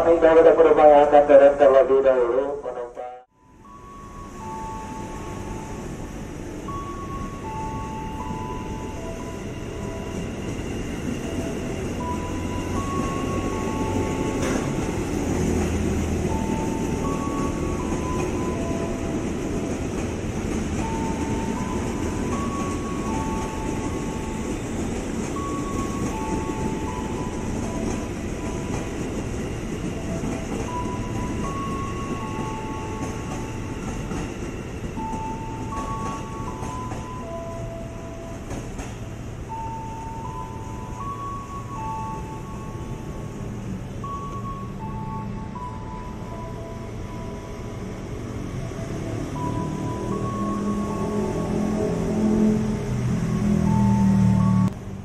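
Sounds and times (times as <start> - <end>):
train wheels rumbling: 4.4 - 55.0.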